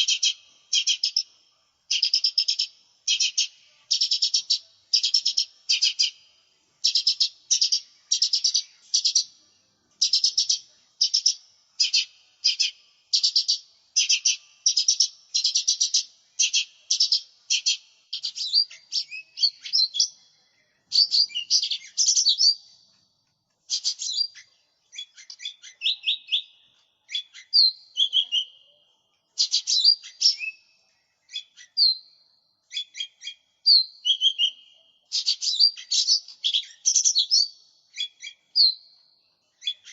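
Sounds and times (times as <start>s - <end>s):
small bird singing: 0.0s - 39.9s.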